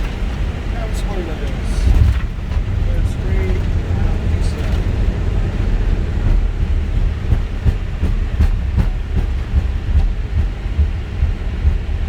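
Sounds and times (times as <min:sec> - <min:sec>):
deep rumble of wheels: 0:00.0 - 0:12.0.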